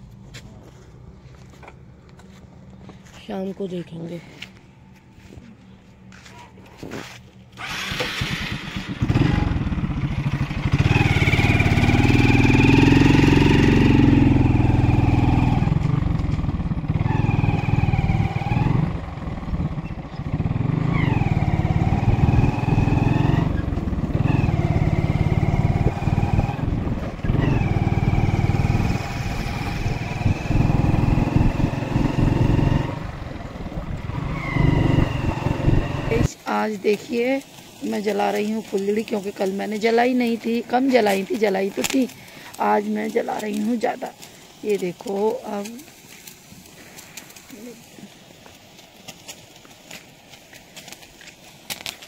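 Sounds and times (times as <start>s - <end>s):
motorcycle engine running: 4.3s - 52.0s.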